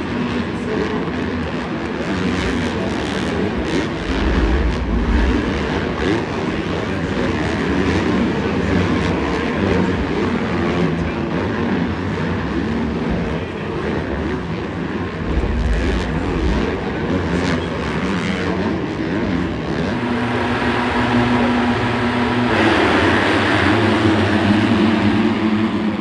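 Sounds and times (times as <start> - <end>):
dirt bike engines revving: 0.1 - 26.0.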